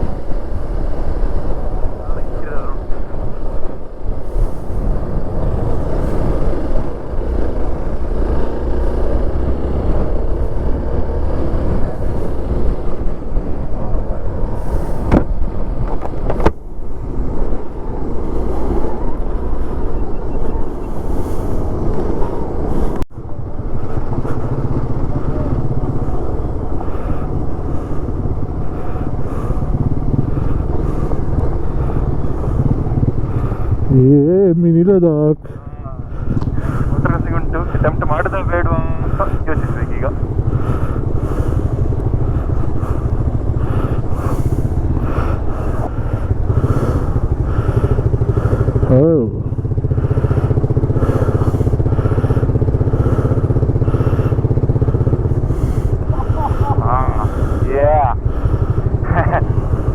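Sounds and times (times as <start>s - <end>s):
wind noise on microphone: 0.0s - 34.3s, 35.4s - 53.3s
motorcycle engine running: 0.0s - 59.9s.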